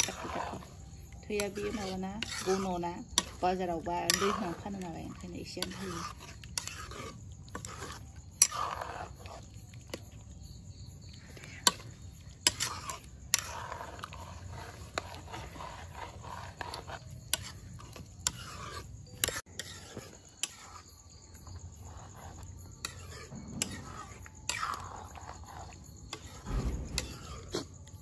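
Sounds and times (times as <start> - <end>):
spatula stirring thick stew: 0.0 - 28.0.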